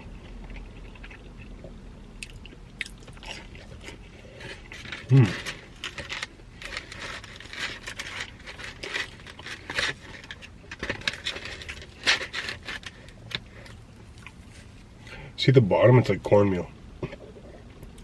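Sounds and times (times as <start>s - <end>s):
pizza chewing crunches: 0.0s - 14.9s.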